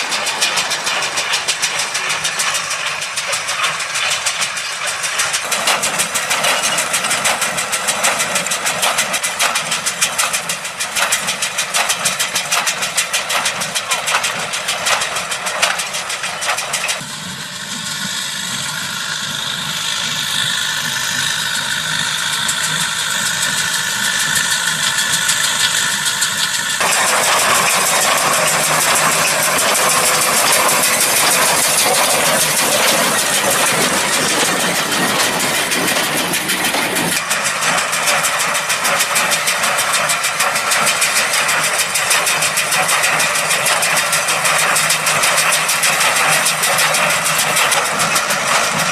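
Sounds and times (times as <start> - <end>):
baler mechanical clatter: 0.0 - 17.0, 19.6 - 48.9
tractor diesel engine: 0.0 - 48.9.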